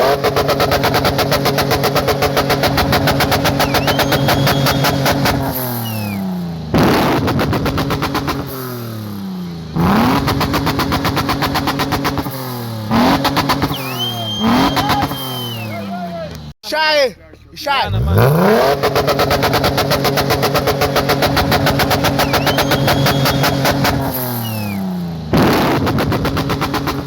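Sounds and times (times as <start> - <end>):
engine revving: 0.0 - 16.5, 17.8 - 27.0.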